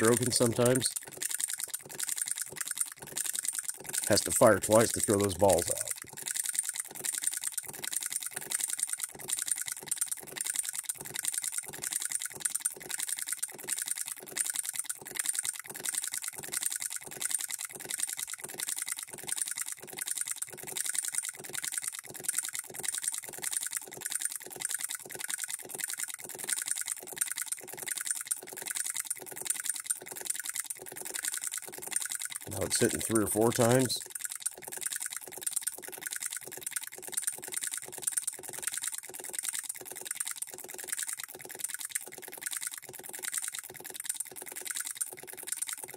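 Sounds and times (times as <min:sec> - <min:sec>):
model engine clicking and clattering: 0:00.0 - 0:45.9.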